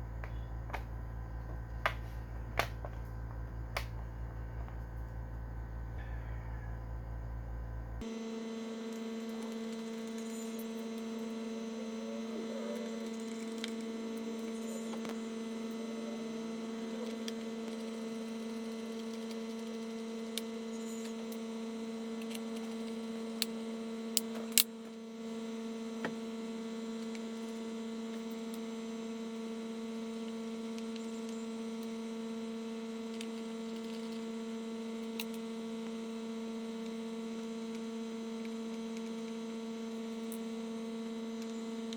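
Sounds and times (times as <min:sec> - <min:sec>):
steady electrical hum: 0:00.0 - 0:41.9.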